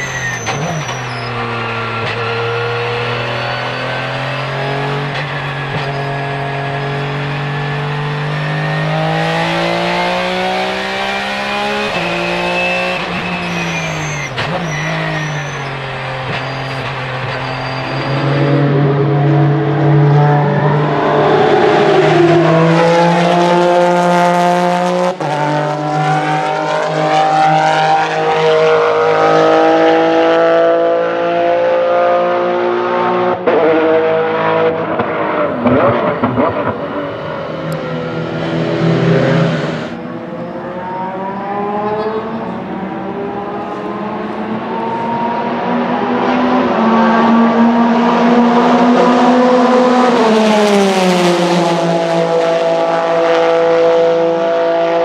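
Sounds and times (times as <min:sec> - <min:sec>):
race car engine with gear changes: 0:00.0 - 0:55.0.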